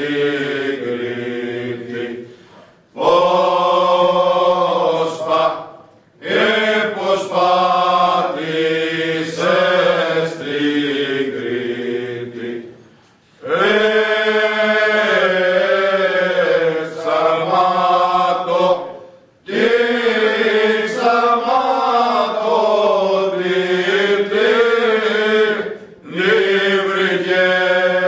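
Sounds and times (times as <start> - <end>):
men singing unaccompanied: 3.0 - 12.7, 13.4 - 28.0.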